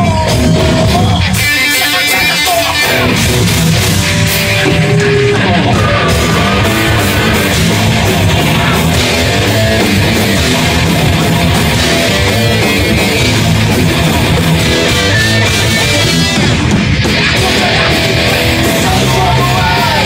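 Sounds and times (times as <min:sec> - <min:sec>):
bass guitar: 0:00.0 - 0:20.0
distorted electric guitars: 0:00.0 - 0:20.0
fast drum beat: 0:00.0 - 0:20.0.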